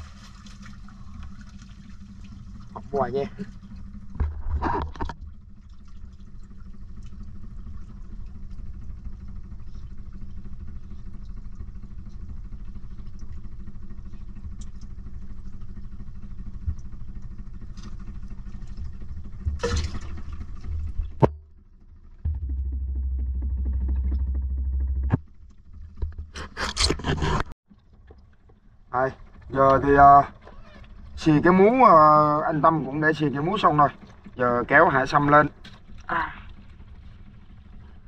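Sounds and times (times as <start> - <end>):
engine humming: 0.0 - 38.0.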